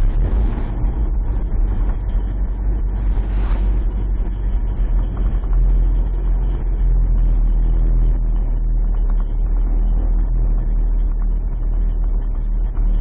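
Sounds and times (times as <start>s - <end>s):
truck engine low drone: 0.0s - 13.0s.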